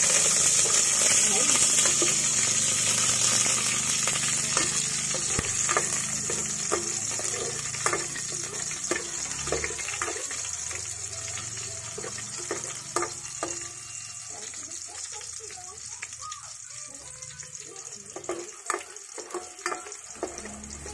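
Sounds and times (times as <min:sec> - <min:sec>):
garlic sizzling in oil: 0:00.0 - 0:20.9.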